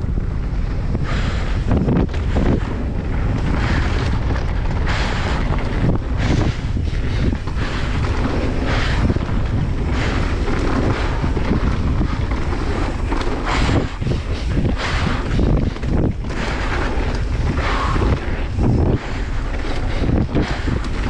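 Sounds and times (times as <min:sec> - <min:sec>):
tyres rumbling: 0:00.0 - 0:21.0
wind on microphone: 0:00.0 - 0:21.0.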